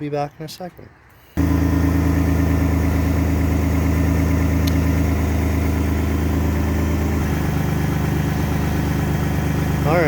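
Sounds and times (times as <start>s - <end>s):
car engine idling: 1.4s - 10.0s.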